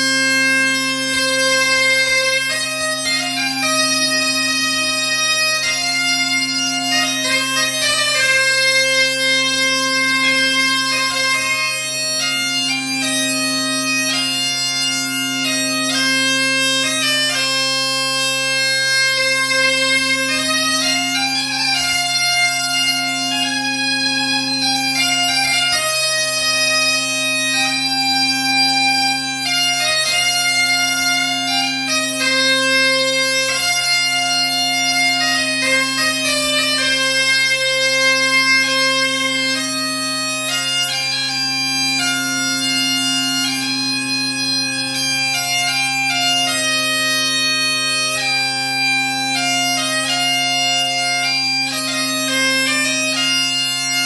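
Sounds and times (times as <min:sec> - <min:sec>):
bagpipe drone: 0:00.0 - 0:54.0
shrill reedy melody: 0:00.0 - 0:54.0.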